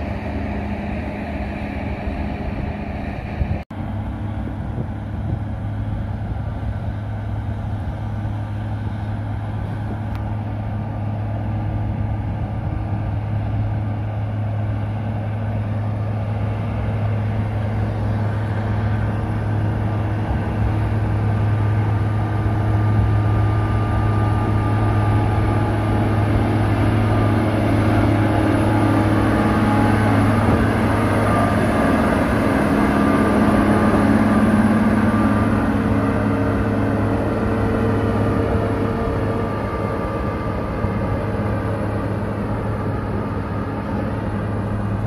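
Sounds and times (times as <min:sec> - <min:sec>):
diesel engine drone: 0:00.0 - 0:45.0.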